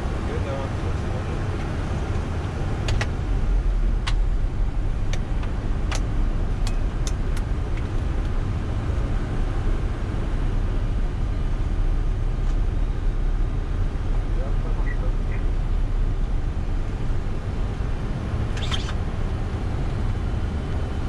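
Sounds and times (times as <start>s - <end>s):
aircraft engines and airflow rumble: 0.0s - 21.0s.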